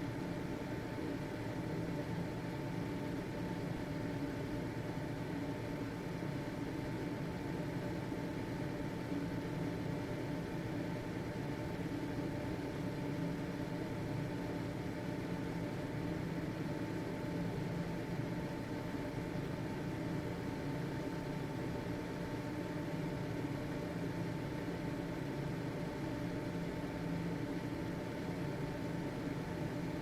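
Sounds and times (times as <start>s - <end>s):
ventilation fan whirring: 0.0s - 30.0s.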